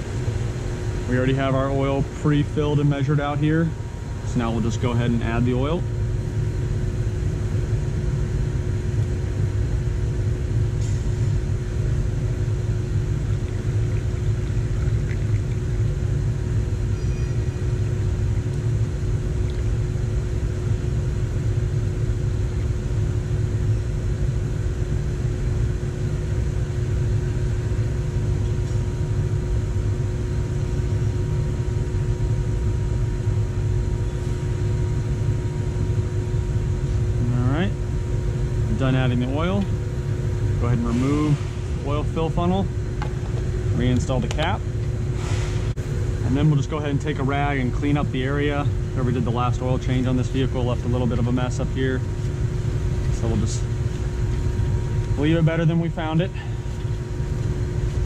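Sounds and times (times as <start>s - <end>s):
ventilation fan humming: 0.0s - 58.0s.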